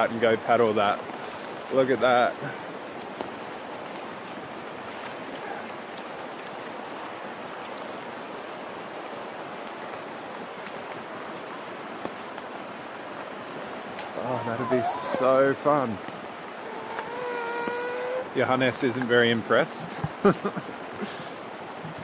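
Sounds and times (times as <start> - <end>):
river rushing in flood: 0.0 - 22.0.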